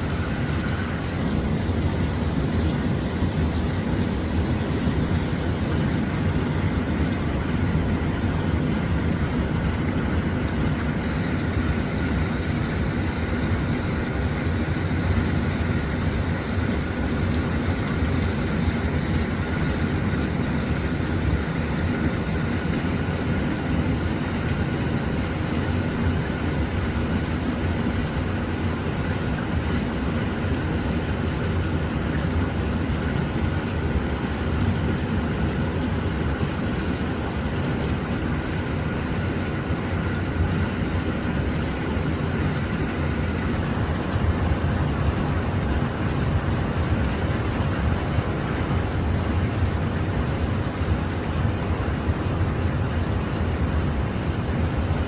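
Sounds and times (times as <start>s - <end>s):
steady low rumble: 0.0s - 24.3s, 25.8s - 55.0s.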